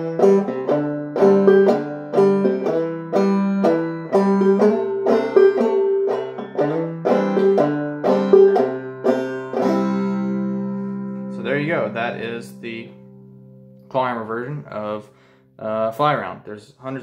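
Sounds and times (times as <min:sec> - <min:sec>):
banjo playing: 0:00.0 - 0:15.0.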